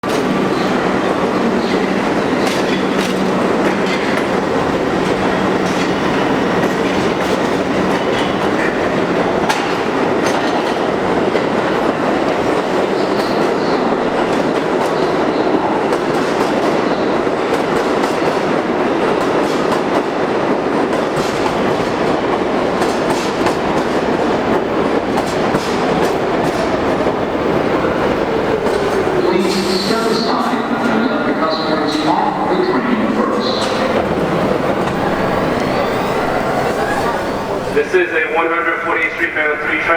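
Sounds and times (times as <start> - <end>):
subway wheels rumbling on rail: 0.0 - 39.9.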